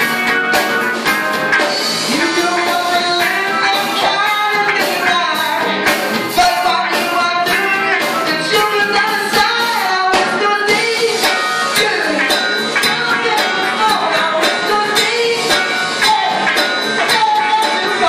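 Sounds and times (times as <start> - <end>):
live rock band playing: 0.0 - 18.0
man singing: 2.1 - 18.0.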